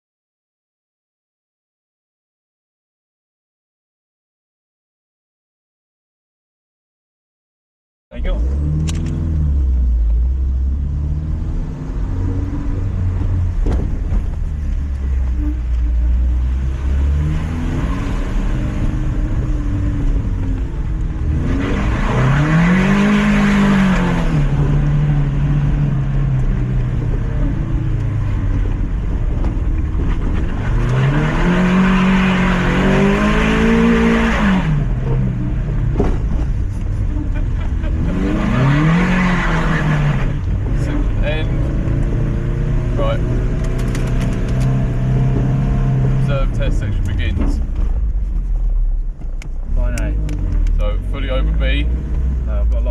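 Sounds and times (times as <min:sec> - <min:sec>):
car engine droning and revving: 0:08.1 - 0:52.9.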